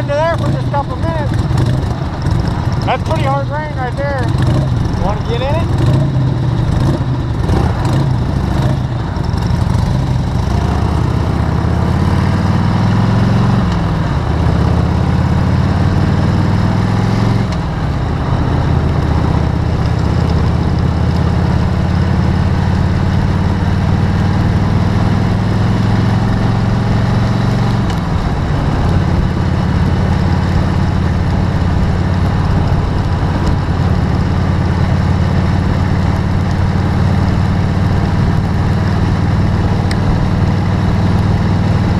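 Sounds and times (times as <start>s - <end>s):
vehicle engine running: 0.0s - 41.9s.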